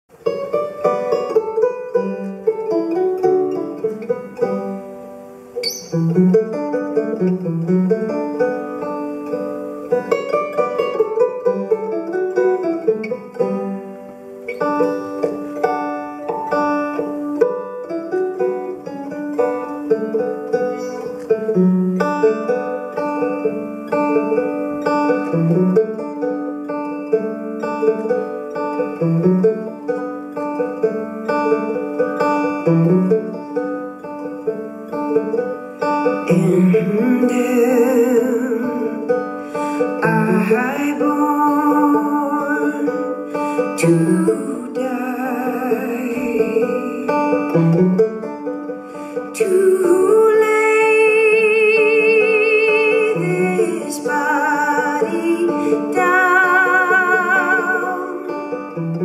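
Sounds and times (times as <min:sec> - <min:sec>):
banjo picking: 0:00.1 - 0:59.0.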